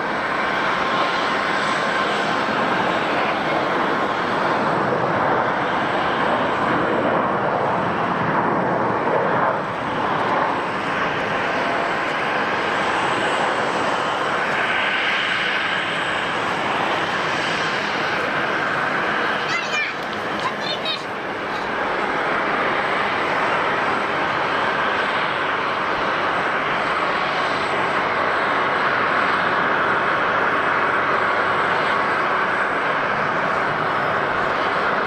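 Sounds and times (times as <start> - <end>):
jet engines rushing: 0.0 - 35.0.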